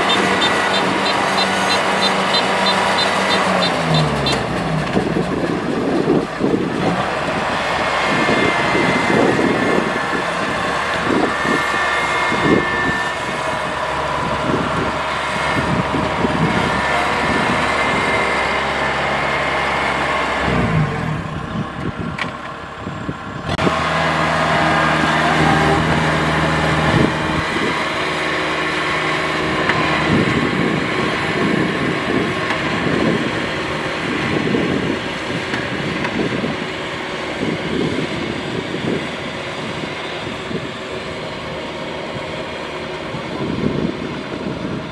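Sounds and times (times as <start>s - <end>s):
combine harvester engine running: 0.0s - 44.9s.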